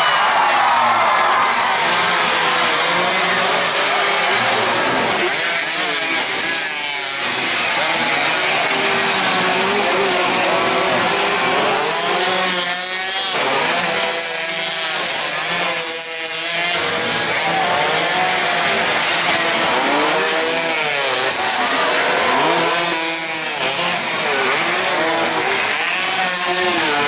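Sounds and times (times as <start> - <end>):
racing motorcycles passing: 0.0 - 27.0.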